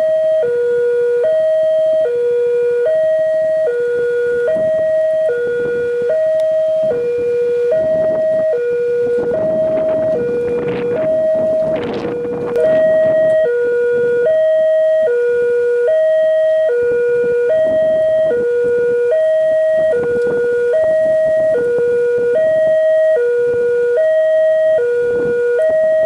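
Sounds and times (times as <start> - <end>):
two-tone crossing alarm: 0.0 - 26.0.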